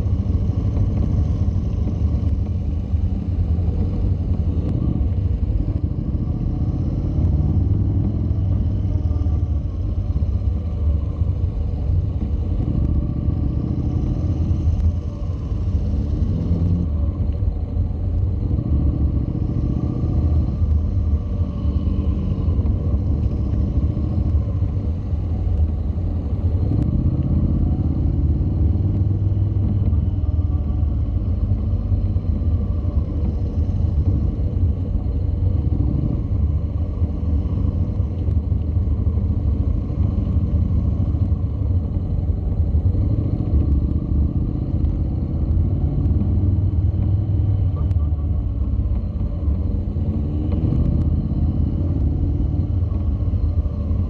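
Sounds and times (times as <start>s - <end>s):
motorcycle engine revving: 0.0s - 54.0s
wind rumble on microphone: 0.0s - 54.0s.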